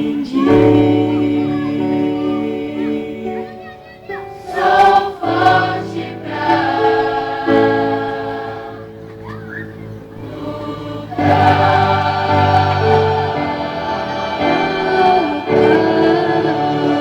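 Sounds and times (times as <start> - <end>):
choir singing gospel song: 0.0 - 9.3, 9.9 - 17.0.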